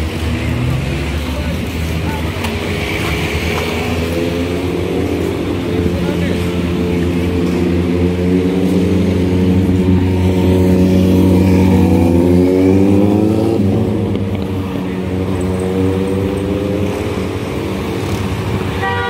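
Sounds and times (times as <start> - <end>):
vehicle engine accelerating: 0.0 - 18.8.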